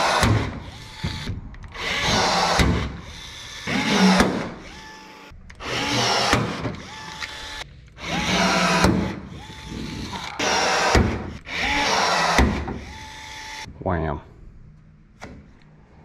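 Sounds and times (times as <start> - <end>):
cordless power tool whirring: 0.0 - 13.7.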